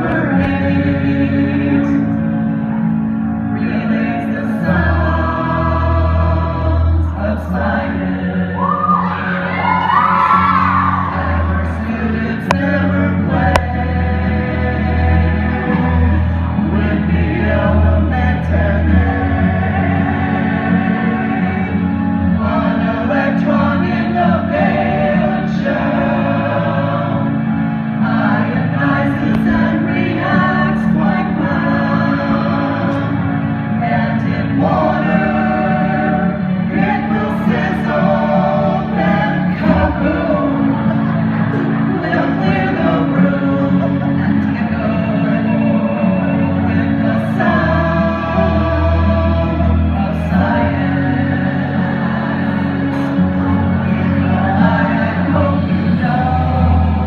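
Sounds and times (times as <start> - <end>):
group of voices singing: 0.0 - 57.0
steady musical accompaniment: 0.0 - 57.0.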